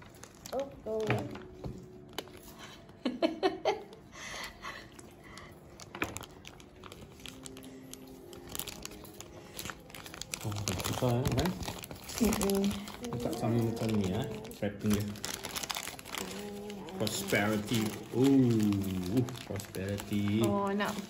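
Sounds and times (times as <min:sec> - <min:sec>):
paper wrapper crinkling: 0:00.0 - 0:03.0, 0:04.6 - 0:21.0.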